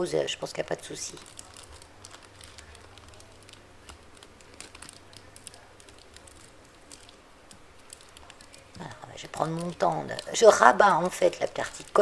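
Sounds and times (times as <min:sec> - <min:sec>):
cellophane crackling: 0:00.8 - 0:12.0.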